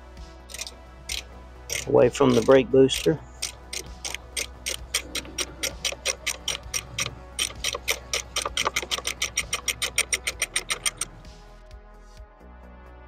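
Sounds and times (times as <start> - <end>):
socket ratchet clicking: 0.5 - 11.2.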